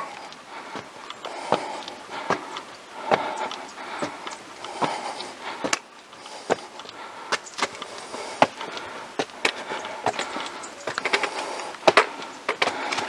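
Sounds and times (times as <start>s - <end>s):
footsteps on walking track: 0.0s - 13.0s.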